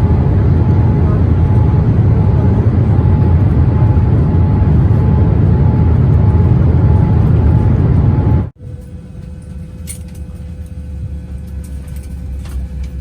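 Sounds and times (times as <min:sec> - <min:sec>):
jet engine rumble: 0:00.0 - 0:13.0.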